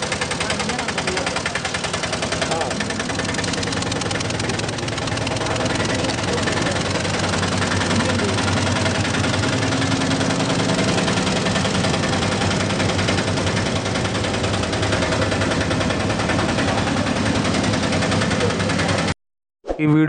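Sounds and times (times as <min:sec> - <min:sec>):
auto rickshaw engine idling: 0:00.0 - 0:19.2.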